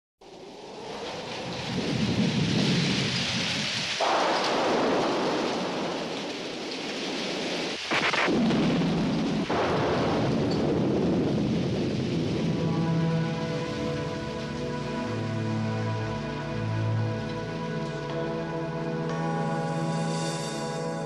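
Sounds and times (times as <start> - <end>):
rumbling thunder: 0.2 - 20.8
rain falling: 0.2 - 21.0
sudden thunderclaps: 0.4 - 18.3.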